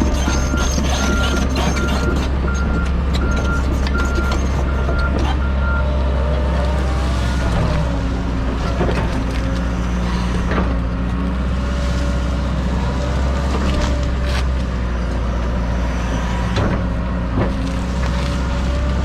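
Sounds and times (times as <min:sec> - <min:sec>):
excavator diesel engine: 0:00.0 - 0:19.0.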